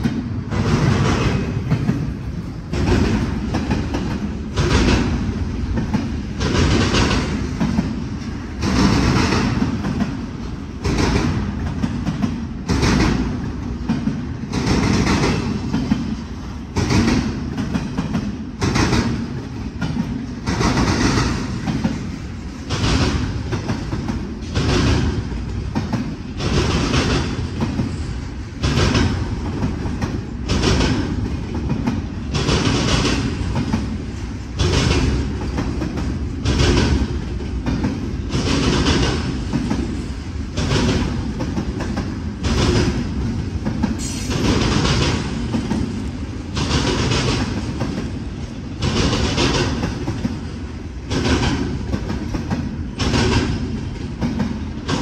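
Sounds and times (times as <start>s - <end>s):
freight train rumble: 0.0s - 55.0s
train wheels clattering over track: 0.0s - 55.0s.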